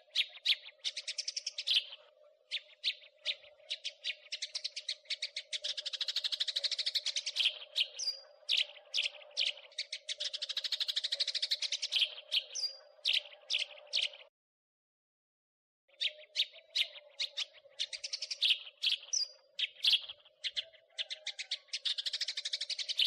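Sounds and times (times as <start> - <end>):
sparrow chirping: 0.0 - 14.3, 15.9 - 23.0.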